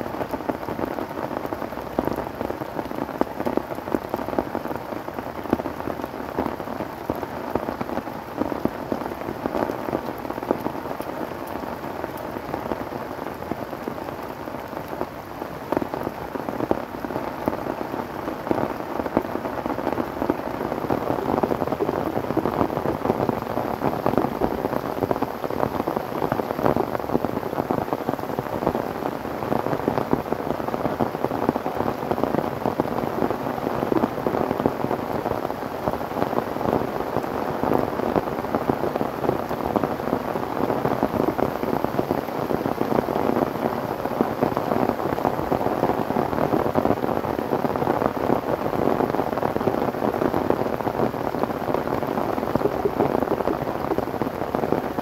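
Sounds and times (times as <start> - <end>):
heavy rain: 0.0 - 55.0
raindrops on plastic tarp: 0.0 - 55.0.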